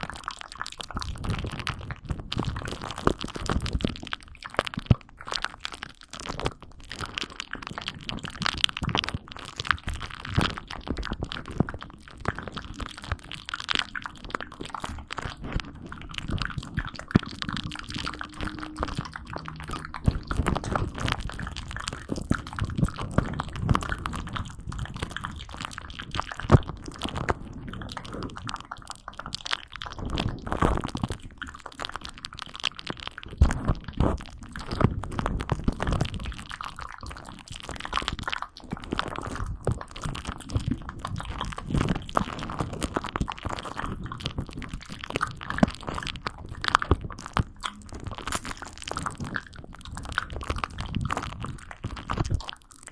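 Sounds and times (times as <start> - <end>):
close crunching crackles and clicks: 0.0 - 52.9.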